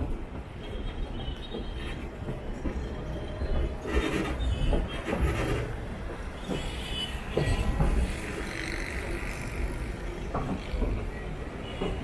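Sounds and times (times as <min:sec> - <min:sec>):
knocks from train wheels: 0:00.0 - 0:12.0
train rumble: 0:00.0 - 0:12.0.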